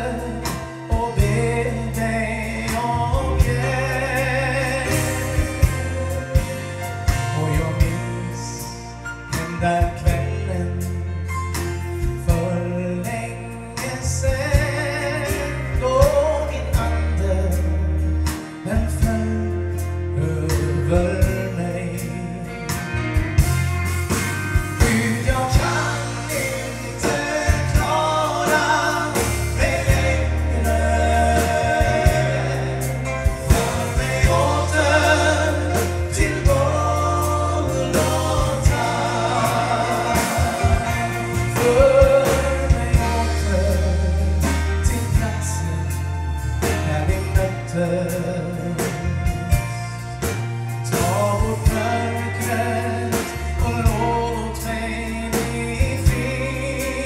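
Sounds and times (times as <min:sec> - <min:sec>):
band with bass and drums: 0:00.0 - 0:57.0
gospel singing: 0:00.0 - 0:57.0.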